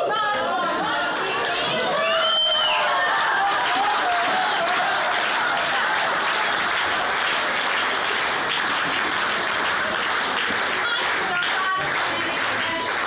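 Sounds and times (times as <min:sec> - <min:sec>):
crowd applauding: 0:00.9 - 0:13.0.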